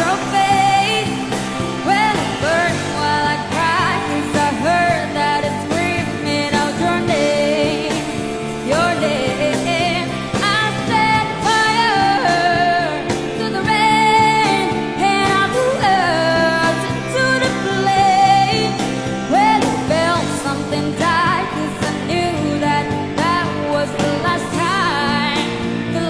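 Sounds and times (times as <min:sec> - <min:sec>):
band accompaniment: 0:00.0 - 0:26.0
woman singing pop ballad: 0:00.0 - 0:26.0.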